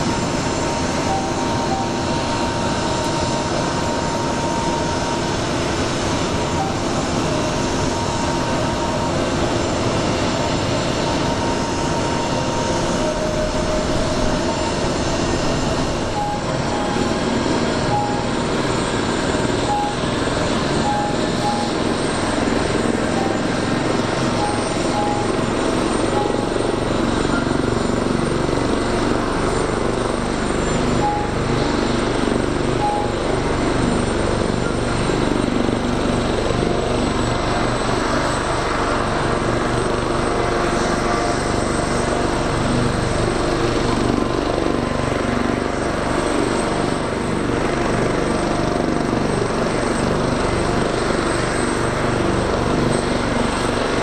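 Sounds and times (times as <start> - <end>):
helicopter turbines rumbling: 0.0 - 54.0.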